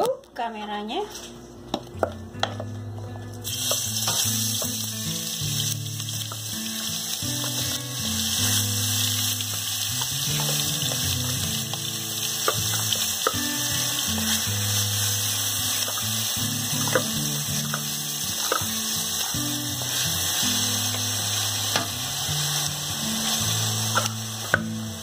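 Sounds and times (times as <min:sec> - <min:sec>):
chili paste sizzling in hot oil: 0:03.4 - 0:25.0.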